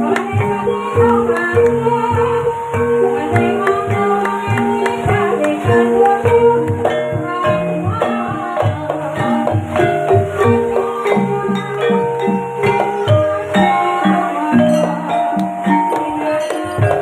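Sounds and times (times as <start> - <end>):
gamelan mallet instruments: 0.0 - 17.0
hand drum beat: 0.0 - 17.0.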